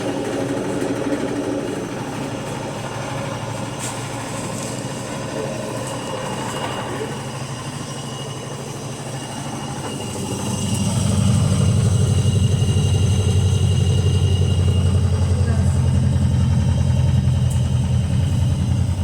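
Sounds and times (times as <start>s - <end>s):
washing machine drone: 0.0s - 19.0s.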